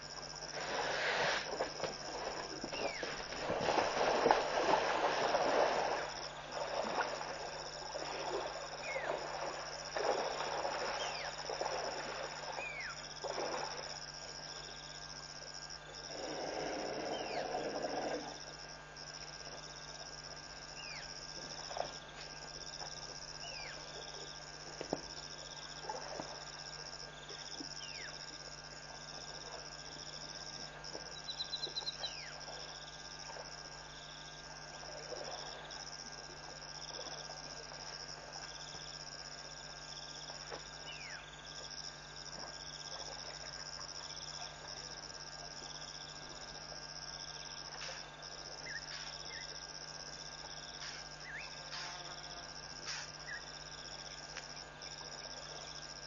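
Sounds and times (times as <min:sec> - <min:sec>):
insects chirring: 0:00.0 - 0:56.0
steady low hum: 0:00.0 - 0:56.0.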